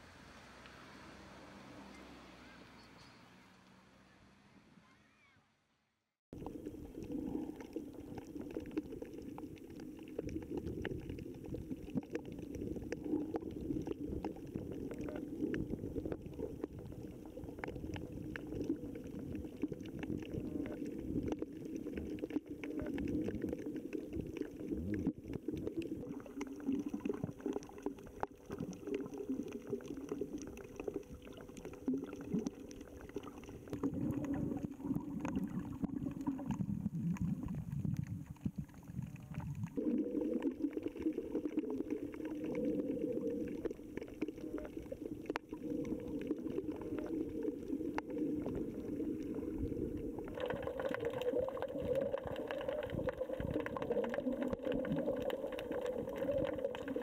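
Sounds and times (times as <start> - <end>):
underwater gurgling: 6.3 - 57.0.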